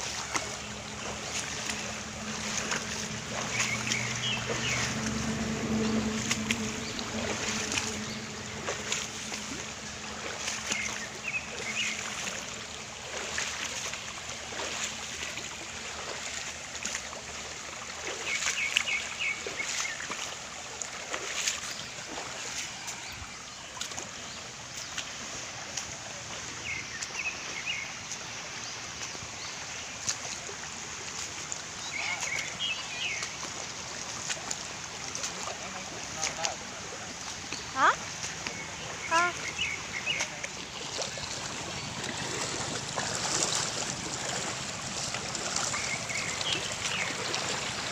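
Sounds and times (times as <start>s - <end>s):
water splashing and lapping: 0.0s - 47.9s.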